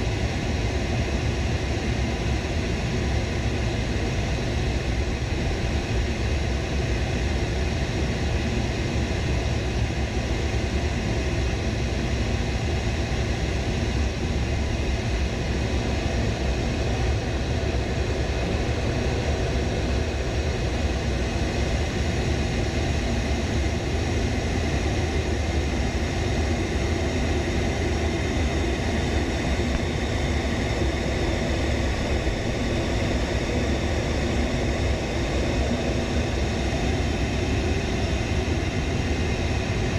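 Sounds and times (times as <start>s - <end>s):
jet engine rumble: 0.0s - 39.9s.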